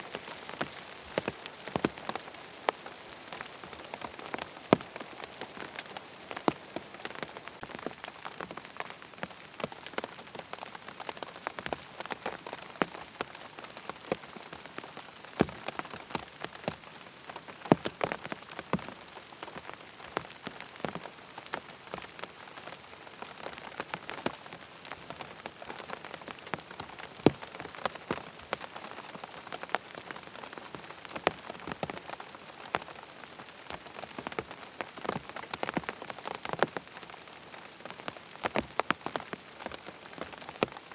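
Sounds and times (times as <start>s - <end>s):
raindrops tapping close by: 0.0s - 40.9s
steady rain falling: 0.0s - 40.9s.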